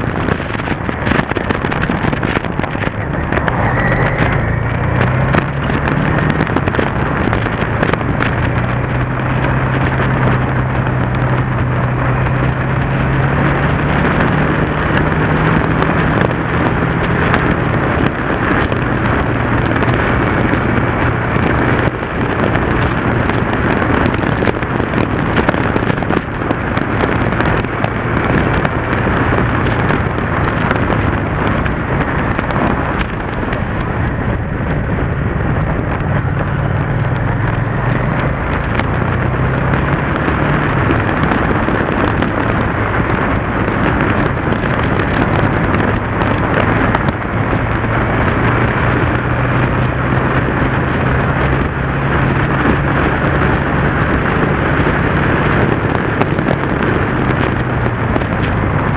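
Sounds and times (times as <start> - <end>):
motorcycle engine running: 0.0 - 58.9
wind rush on microphone: 0.0 - 58.9.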